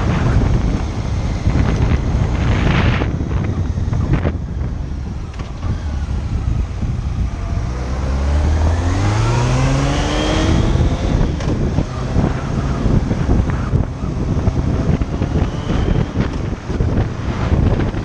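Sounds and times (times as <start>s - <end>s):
motorcycle engine accelerating: 0.0s - 18.0s
wind rushing across microphone: 0.0s - 18.0s.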